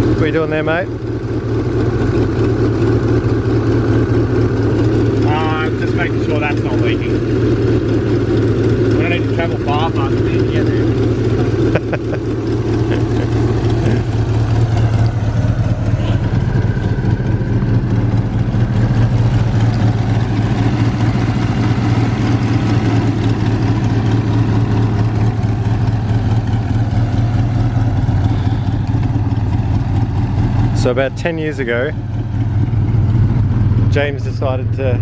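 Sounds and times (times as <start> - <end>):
car engine running steadily: 0.0 - 35.0.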